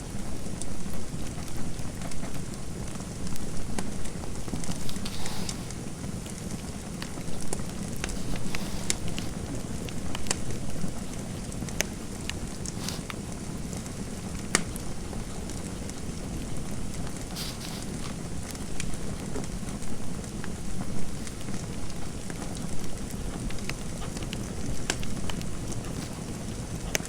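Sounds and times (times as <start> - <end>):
low rumble of fire: 0.0 - 27.0
wood fire crackling and popping: 0.0 - 27.0.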